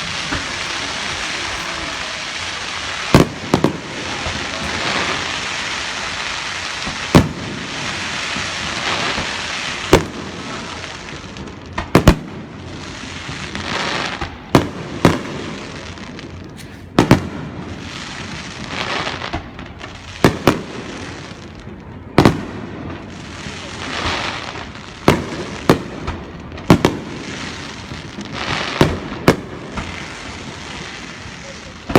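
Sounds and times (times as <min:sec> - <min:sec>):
fireworks exploding: 0:00.0 - 0:31.9
fireworks hissing: 0:00.0 - 0:31.9.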